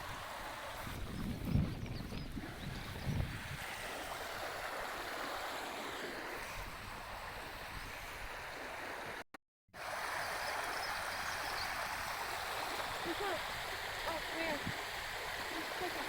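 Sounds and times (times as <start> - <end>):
stream rushing: 0.0 - 1.4, 2.4 - 9.2, 9.8 - 16.0.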